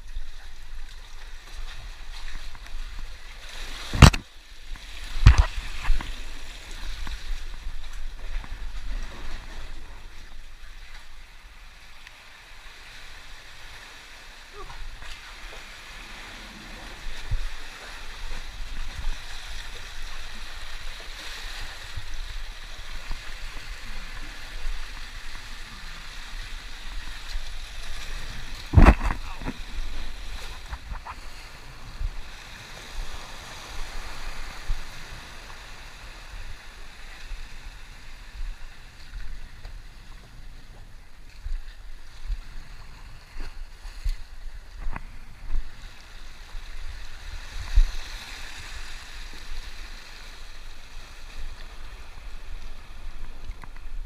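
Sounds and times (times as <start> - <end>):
seawater washing over rocks: 0.0 - 54.0.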